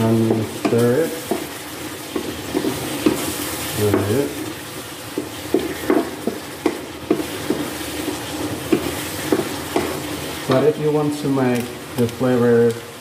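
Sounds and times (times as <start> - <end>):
wooden spatula scraping pan: 0.0 - 10.8
chicken sizzling in a wok: 0.0 - 13.0.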